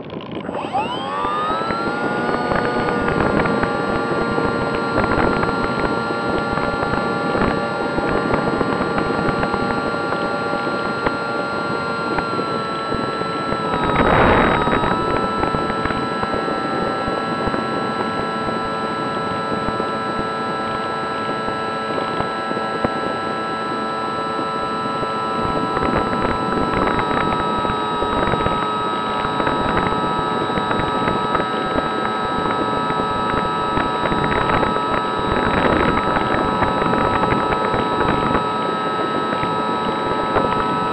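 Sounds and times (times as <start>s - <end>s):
model plane propeller whining: 0.0s - 40.9s
wind rush on microphone: 0.0s - 40.9s.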